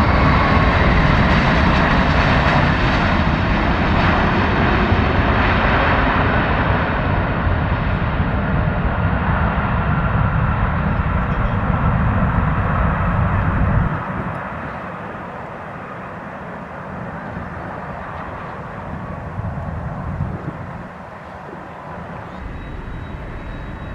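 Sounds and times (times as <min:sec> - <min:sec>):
jet engine low rumble: 0:00.0 - 0:23.9
jet engine rushing: 0:00.0 - 0:23.9.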